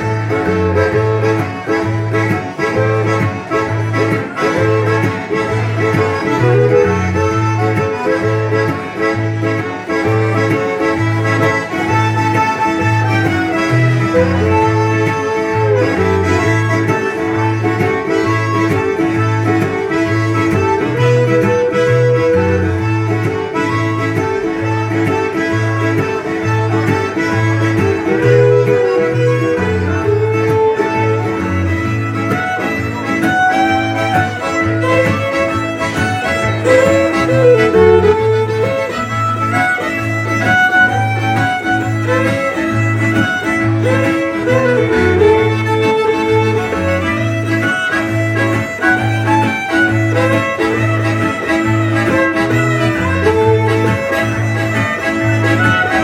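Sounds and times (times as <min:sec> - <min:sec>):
button accordion: 0:00.0 - 0:56.0
fiddle melody: 0:00.0 - 0:56.0
strummed acoustic guitar: 0:00.0 - 0:56.0.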